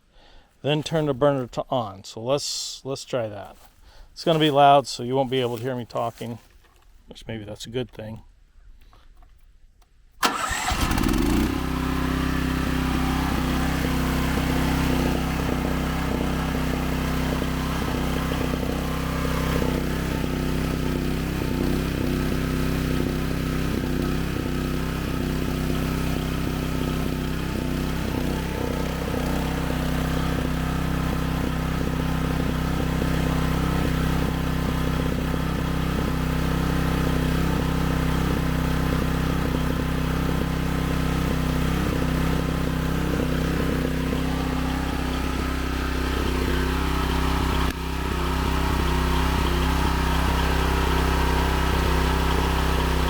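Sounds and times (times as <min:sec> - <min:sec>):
pressure washer engine running: 0:10.2 - 0:53.0.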